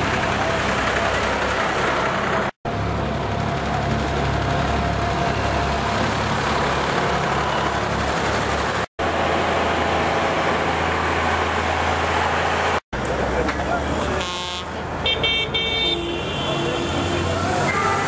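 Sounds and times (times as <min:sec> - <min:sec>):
tractor engines running: 0:00.0 - 0:15.5.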